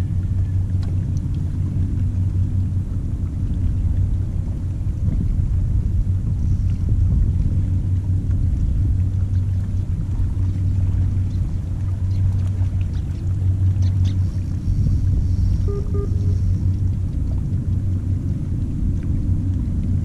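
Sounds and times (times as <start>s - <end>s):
faint hum: 0.0s - 20.0s
steady low rumble: 0.0s - 20.0s.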